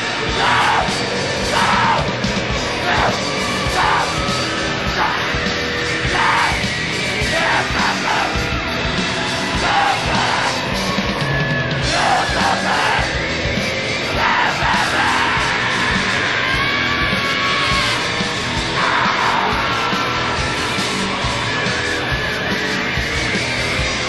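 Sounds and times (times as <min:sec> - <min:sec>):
distorted noise music: 0:00.0 - 0:24.0
person screaming vocals: 0:00.3 - 0:08.5, 0:09.5 - 0:10.9, 0:11.9 - 0:13.2, 0:14.0 - 0:23.1.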